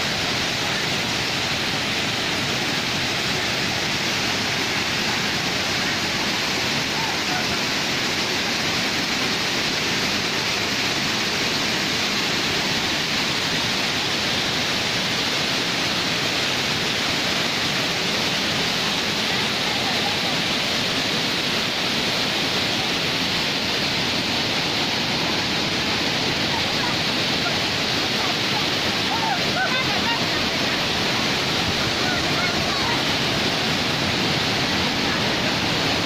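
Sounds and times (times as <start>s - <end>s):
waterfall pouring over rocks: 0.0s - 36.0s.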